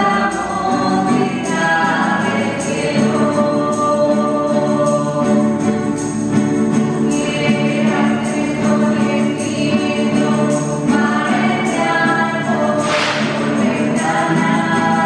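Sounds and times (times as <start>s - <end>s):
group singing a hymn: 0.0s - 15.0s
strummed acoustic guitars: 0.0s - 15.0s.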